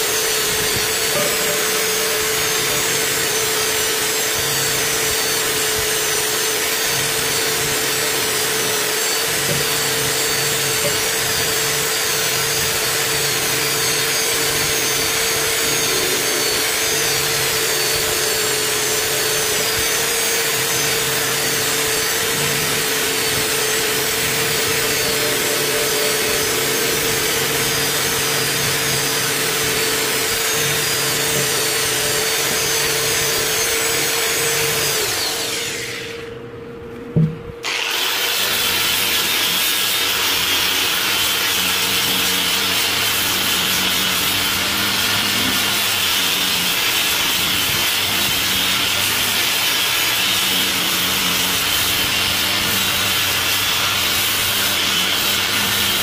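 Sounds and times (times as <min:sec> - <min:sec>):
electric drill motor whine: 0:00.0 - 0:56.0.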